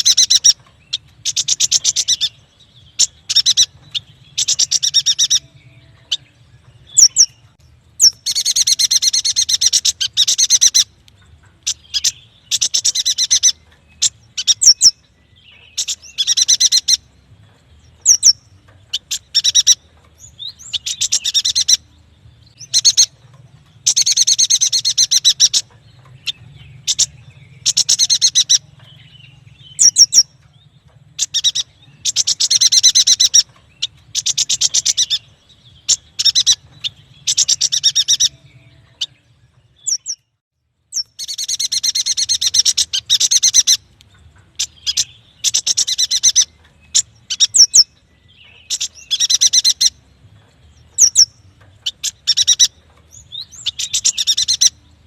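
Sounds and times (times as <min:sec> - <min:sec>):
bird singing high chirping trills: 0:00.0 - 0:55.0.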